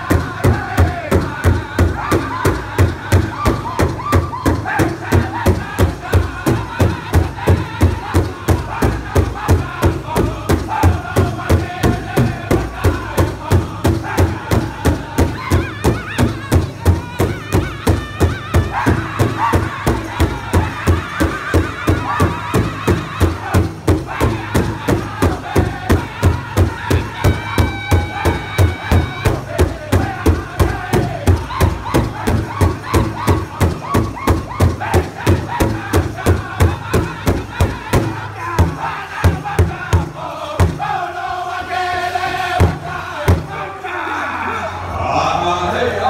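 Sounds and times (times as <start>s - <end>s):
large drum beating: 0.0s - 40.9s, 42.6s - 43.6s
group of men singing: 0.0s - 46.0s.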